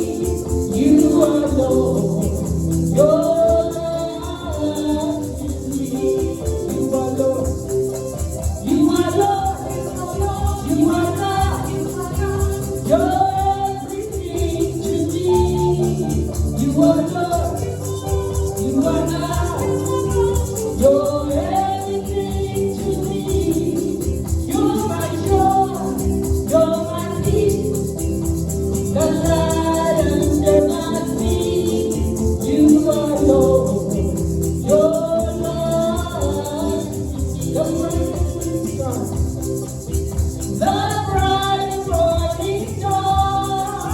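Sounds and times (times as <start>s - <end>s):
person singing gospel: 0.0s - 43.9s
rattling hand percussion: 0.0s - 43.9s.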